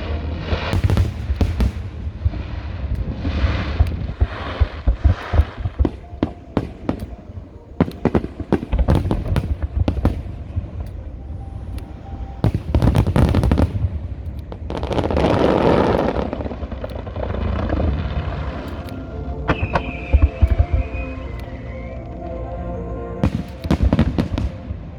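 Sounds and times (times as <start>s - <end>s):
fireworks bangs: 0.0s - 10.8s, 12.4s - 21.5s, 23.2s - 24.9s
fireworks crackling: 0.0s - 24.9s.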